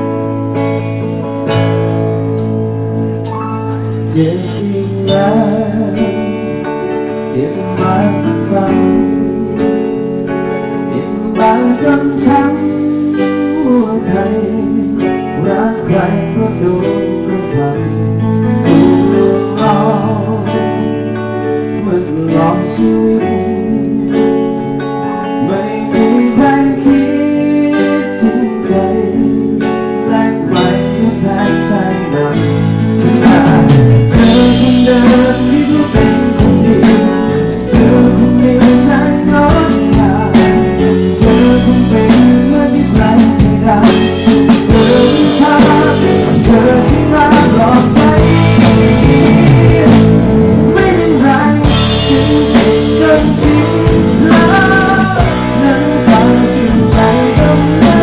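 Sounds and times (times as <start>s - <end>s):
band music with guitar over speakers: 0.0s - 58.0s.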